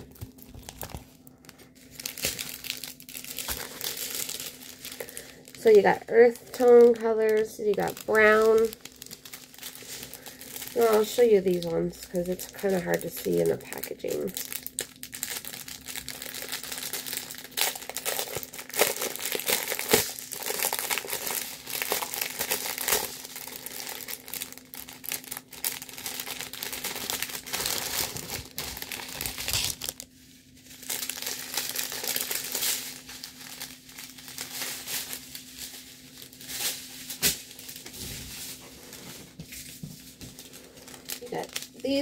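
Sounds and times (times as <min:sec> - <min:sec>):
plastic bags crinkling: 0:00.0 - 0:42.0.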